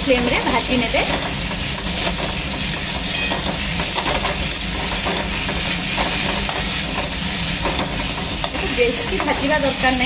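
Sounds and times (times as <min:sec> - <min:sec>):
food sizzling in oil: 0:00.0 - 0:10.0
spatula scraping pan: 0:00.0 - 0:10.0.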